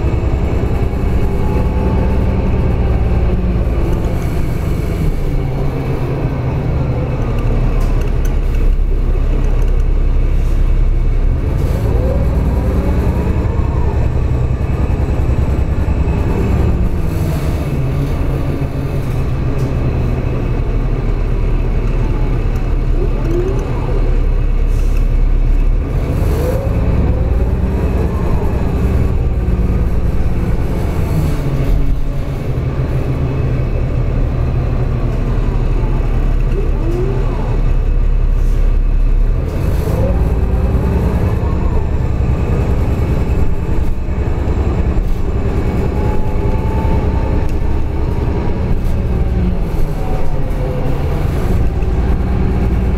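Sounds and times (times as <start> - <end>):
bus engine drone and whine: 0.0 - 52.9.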